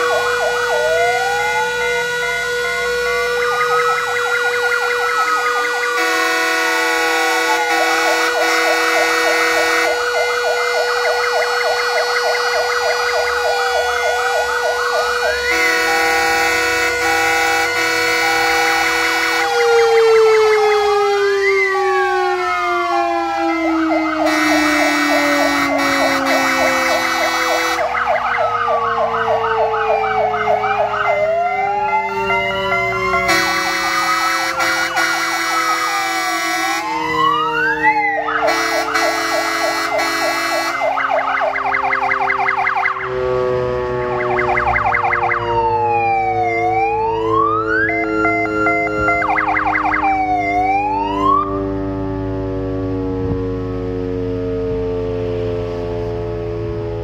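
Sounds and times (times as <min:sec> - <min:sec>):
sirens yelping and wailing: 0:00.0 - 0:57.0
steady siren tone winding down: 0:00.0 - 0:57.0.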